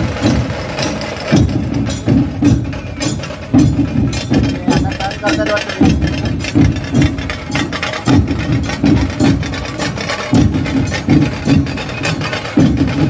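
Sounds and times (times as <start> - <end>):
music with rhythmic drum beat: 0.0 - 13.0.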